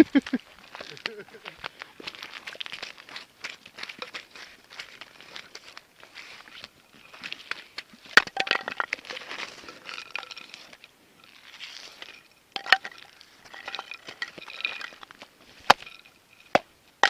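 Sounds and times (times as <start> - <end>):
snow and ice crunching: 0.0 - 17.0.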